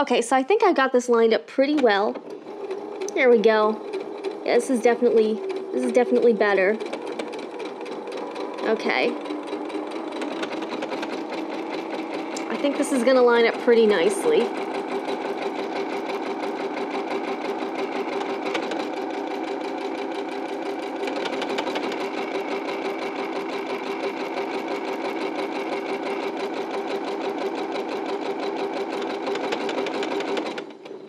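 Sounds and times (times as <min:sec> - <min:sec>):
sewing machine stitching: 0:01.5 - 0:31.0.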